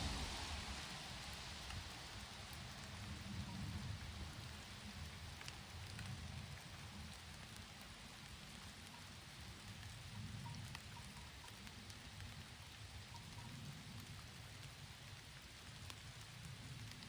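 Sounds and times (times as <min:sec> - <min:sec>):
single raindrops ticking: 0:00.0 - 0:17.0
steady rain: 0:00.0 - 0:17.0.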